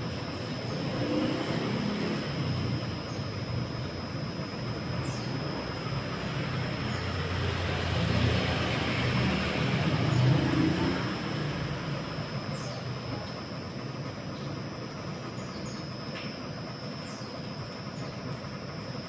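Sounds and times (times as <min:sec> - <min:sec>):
carpet spinner motor drone: 0:00.0 - 0:19.0
thin high whine: 0:00.0 - 0:19.0.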